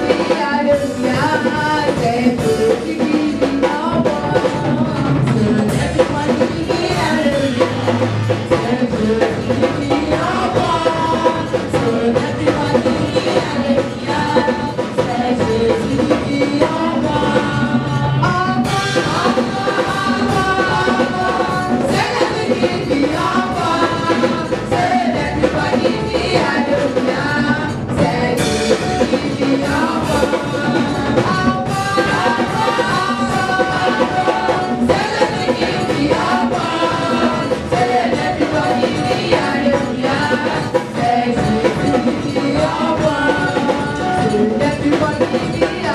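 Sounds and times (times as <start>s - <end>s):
drum kit: 0.0s - 45.9s
women singing gospel: 0.0s - 45.9s.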